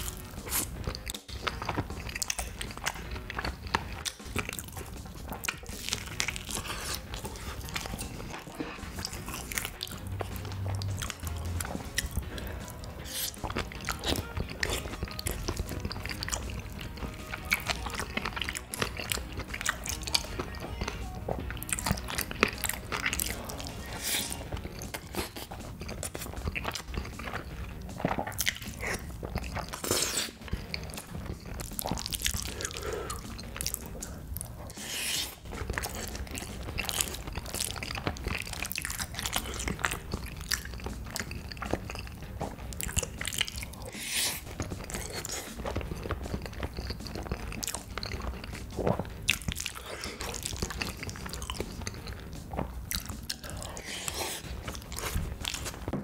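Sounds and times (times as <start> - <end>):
person chewing and biting: 0.0 - 56.0.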